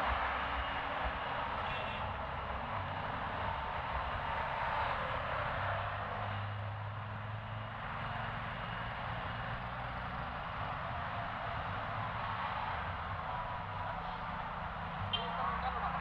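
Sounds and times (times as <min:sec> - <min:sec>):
cars and motorbikes passing: 0:00.0 - 0:16.0.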